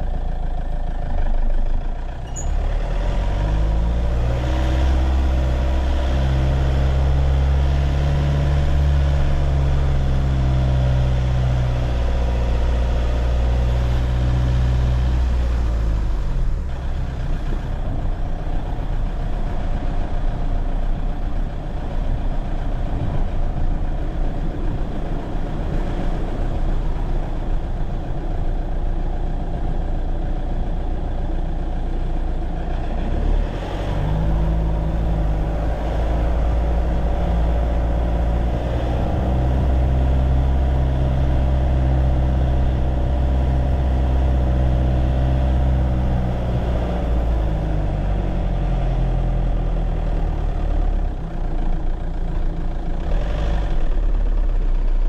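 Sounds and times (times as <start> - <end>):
road and traffic rumble: 0.0 - 55.0
vehicle engine humming: 0.0 - 55.0.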